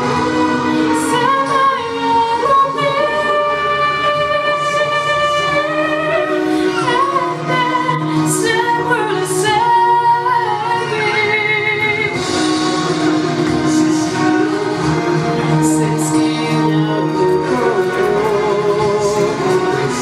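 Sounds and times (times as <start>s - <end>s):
woman singing into a microphone: 0.0s - 20.0s.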